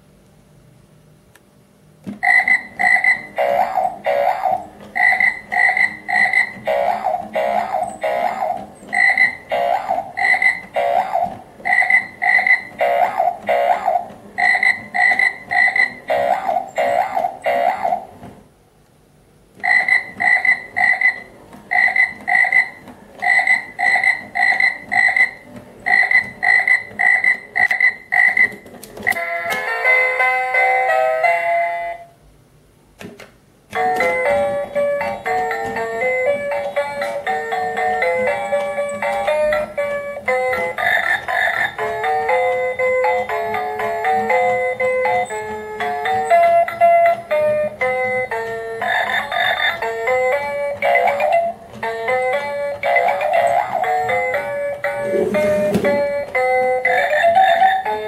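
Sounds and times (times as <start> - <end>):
toy frog electronic croaking: 2.2 - 18.2, 19.6 - 29.3, 33.8 - 58.0.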